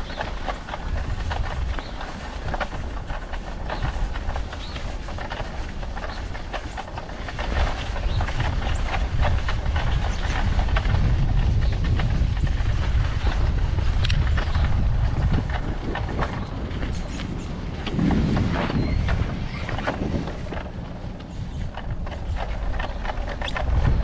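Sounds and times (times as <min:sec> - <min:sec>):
bicycle rattling over rough ground: 0:00.0 - 0:24.0
wind rumbling on microphone: 0:00.0 - 0:24.0.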